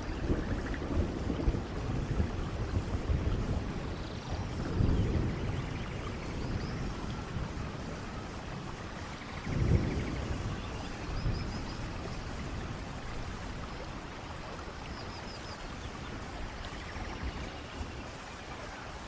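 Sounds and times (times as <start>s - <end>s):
steady water noise: 0.0s - 19.0s.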